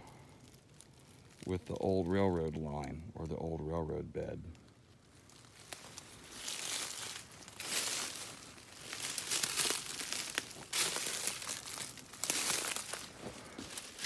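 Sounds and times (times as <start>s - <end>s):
footsteps crunching dry leaves: 0.0s - 3.0s, 4.6s - 14.0s
twigs snapping: 0.0s - 3.0s, 4.5s - 14.0s
brush and branches rustling: 0.0s - 14.0s.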